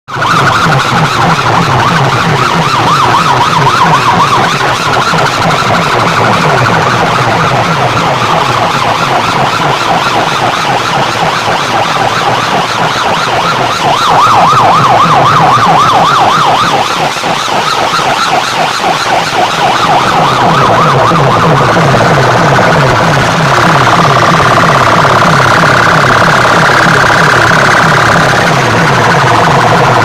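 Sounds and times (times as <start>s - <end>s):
warbling electronic siren: 0.1s - 30.0s.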